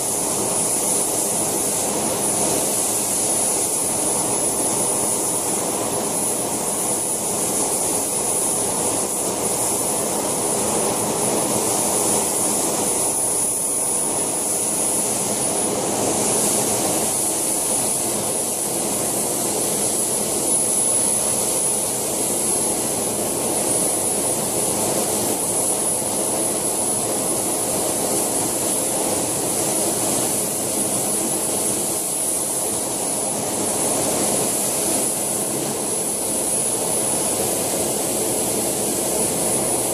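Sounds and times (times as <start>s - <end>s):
turbine high-pitched whine: 0.0s - 39.9s.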